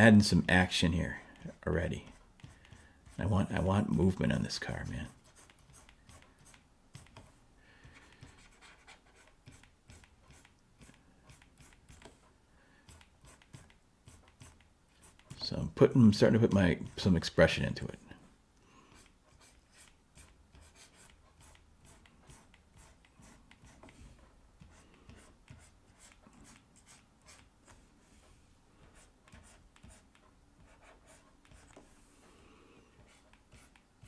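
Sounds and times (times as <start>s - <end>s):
stylus scratching on pen tablet: 1.2s - 15.5s, 16.3s - 17.4s, 18.9s - 32.0s, 33.0s - 33.9s.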